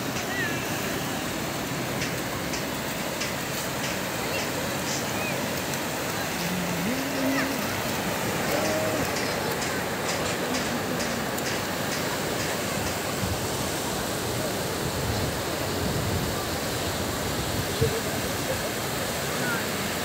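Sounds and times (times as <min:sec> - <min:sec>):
small waves breaking on shore: 0:00.0 - 0:20.0.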